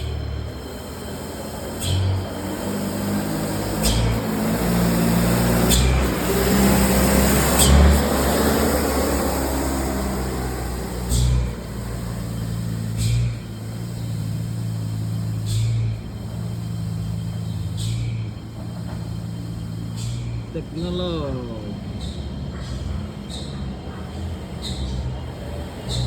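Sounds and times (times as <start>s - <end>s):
air hissing: 0.0s - 26.0s
truck engine running: 0.0s - 26.0s.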